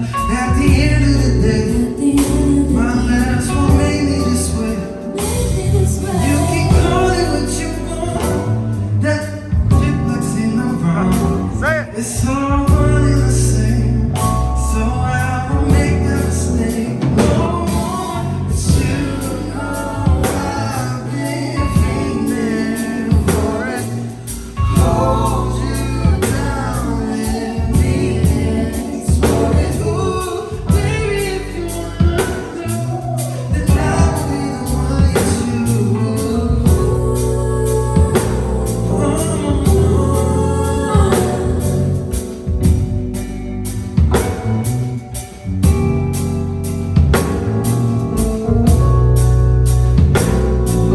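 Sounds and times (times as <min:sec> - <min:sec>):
person singing: 0:00.0 - 0:43.0
heavy bass beat: 0:00.0 - 0:50.9
live band playing: 0:00.0 - 0:50.9.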